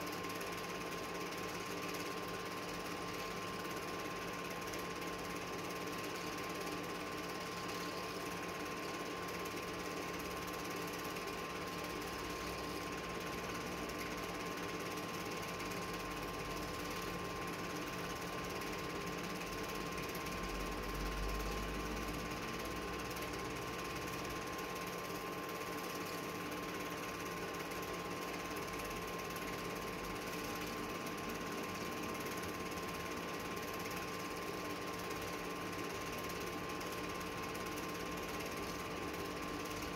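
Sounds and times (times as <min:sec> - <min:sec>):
film projector clatter: 0:00.0 - 0:39.9
projector hum: 0:00.0 - 0:39.9.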